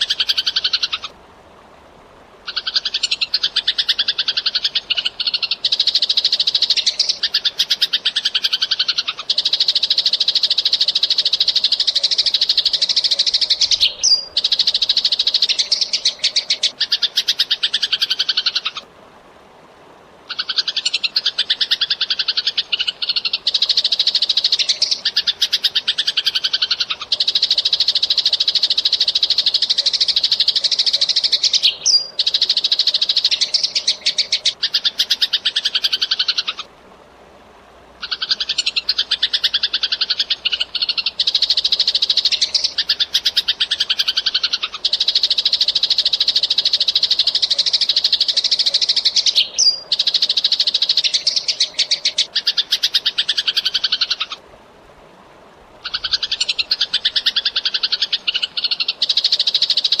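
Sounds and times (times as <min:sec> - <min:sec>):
sparrow chirping: 0:02.5 - 0:18.8, 0:20.3 - 0:36.6, 0:38.0 - 0:54.3.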